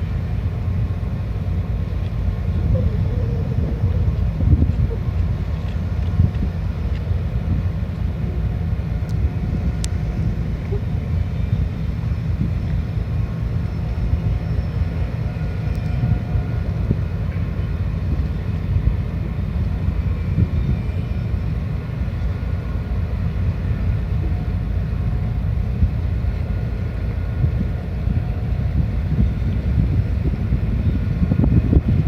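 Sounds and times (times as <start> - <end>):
ship diesel engines rumbling: 0.0 - 32.0.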